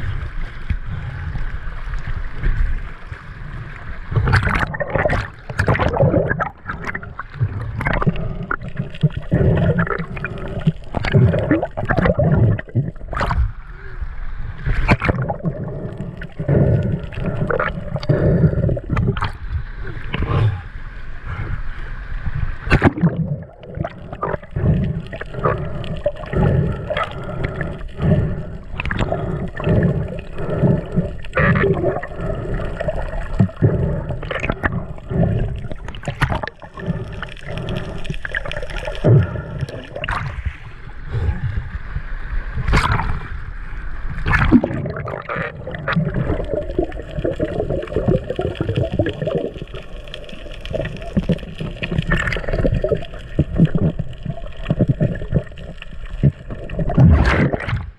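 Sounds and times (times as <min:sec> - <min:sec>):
water sloshing and gurgling: 0:00.0 - 0:57.9.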